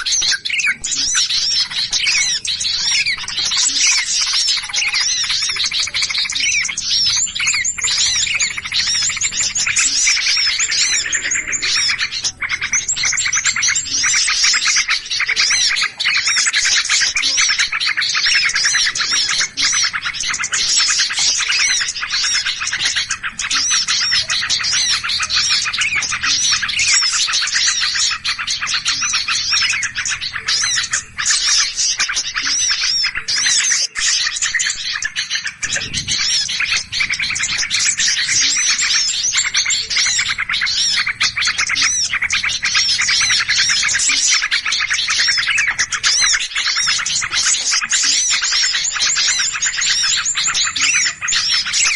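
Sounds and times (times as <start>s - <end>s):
many small birds chirping: 0.0s - 51.9s.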